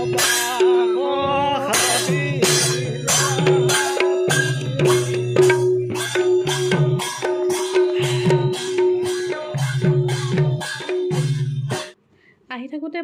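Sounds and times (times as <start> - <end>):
barrel drums playing: 0.0 - 12.0
hand cymbals clashing: 0.0 - 12.0.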